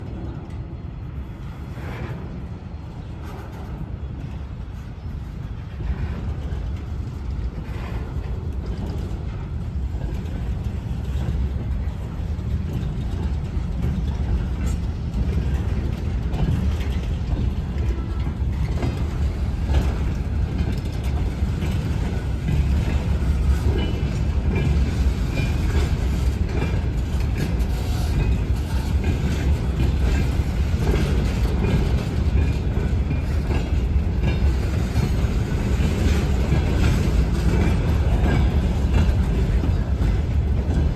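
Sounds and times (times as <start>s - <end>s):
diesel locomotive engine running: 0.0s - 40.9s
wheels clicking over rail joints: 1.8s - 40.9s.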